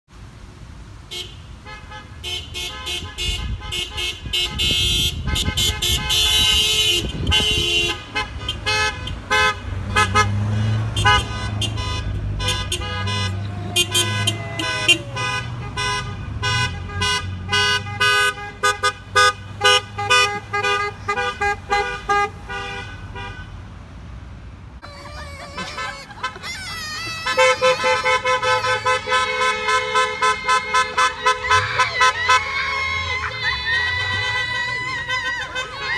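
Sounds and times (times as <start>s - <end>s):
car horns honking: 1.0s - 23.7s, 24.8s - 35.9s
truck engine passing: 2.4s - 35.9s.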